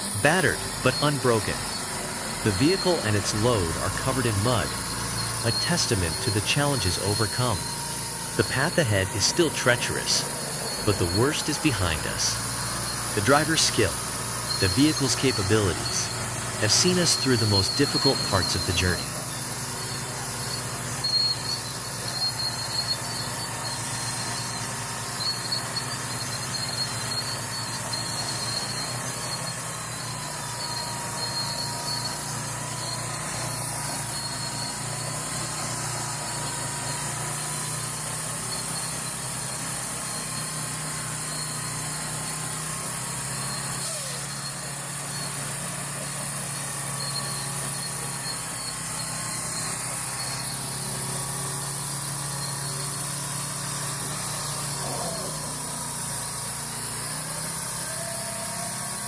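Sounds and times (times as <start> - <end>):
heavy truck engine running: 0.0 - 59.0
thin wavering whine: 0.0 - 59.0.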